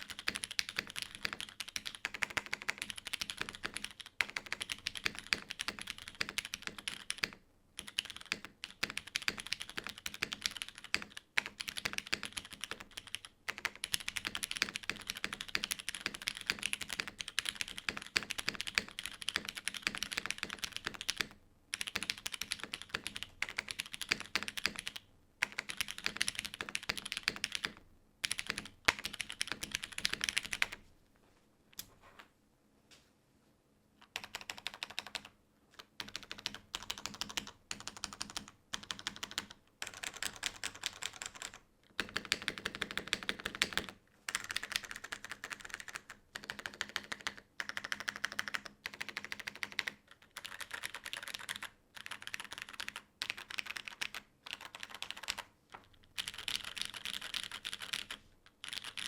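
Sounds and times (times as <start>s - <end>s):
fast typing on mechanical keyboard: 0.0s - 30.8s, 34.0s - 59.0s
faint steady hum: 0.0s - 59.0s.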